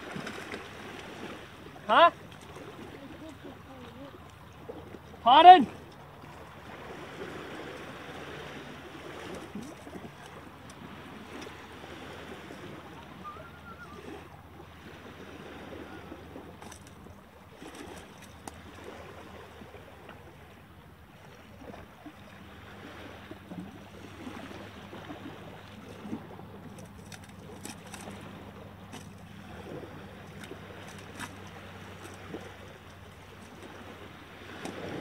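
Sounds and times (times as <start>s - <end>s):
light wind: 0.0s - 35.0s
waves lapping on rocky shore: 0.0s - 35.0s.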